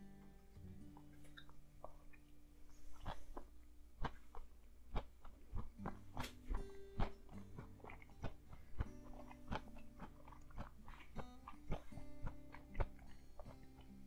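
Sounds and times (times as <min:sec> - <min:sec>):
fingerpicked acoustic guitar: 0:00.0 - 0:14.0.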